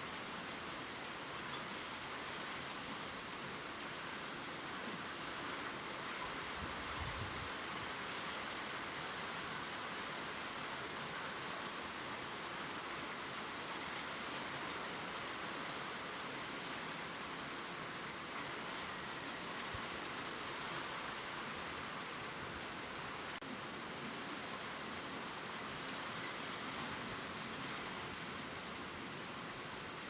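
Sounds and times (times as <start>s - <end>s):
gentle rain on leaves: 0.0s - 30.0s.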